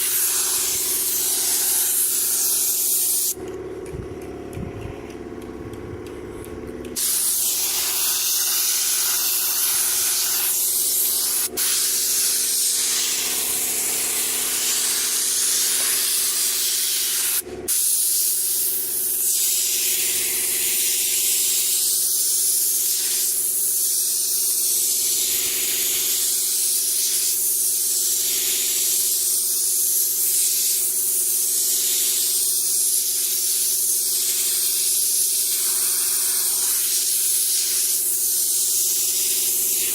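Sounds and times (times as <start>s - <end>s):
spray gun hissing: 0.0s - 3.4s, 7.0s - 39.9s.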